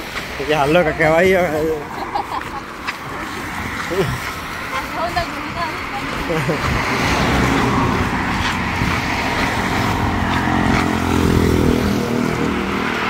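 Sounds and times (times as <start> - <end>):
highway traffic passing: 0.0 - 13.0.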